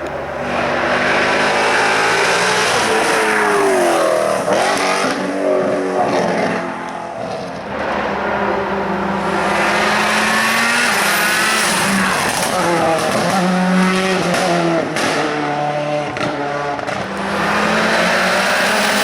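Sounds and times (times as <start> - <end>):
racing car engine: 0.0 - 19.0.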